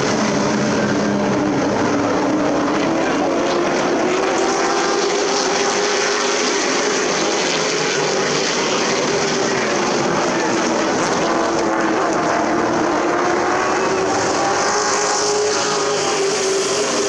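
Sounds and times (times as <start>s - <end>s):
race truck engines running: 0.0s - 17.0s.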